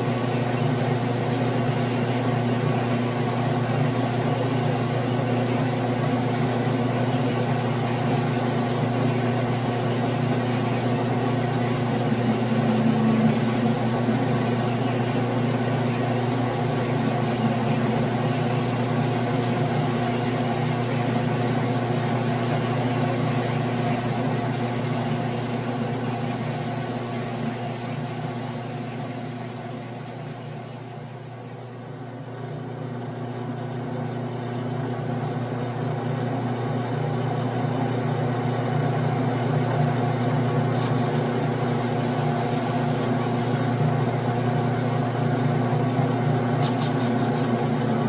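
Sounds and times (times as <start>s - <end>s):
lathe motor humming: 0.0s - 48.0s.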